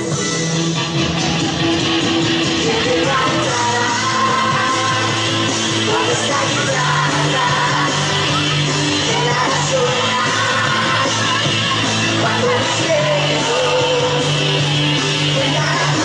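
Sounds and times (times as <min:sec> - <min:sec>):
loud rock music: 0:00.0 - 0:16.0
yelled vocals: 0:00.0 - 0:16.0.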